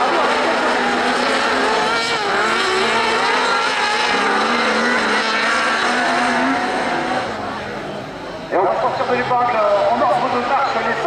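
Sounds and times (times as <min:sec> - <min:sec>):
racing buggy engines revving: 0:00.0 - 0:11.0.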